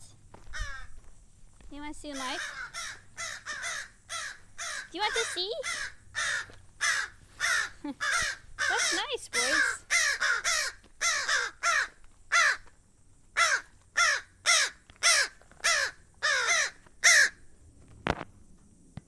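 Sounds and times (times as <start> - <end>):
crows cawing: 0.4 - 1.0, 2.1 - 17.4.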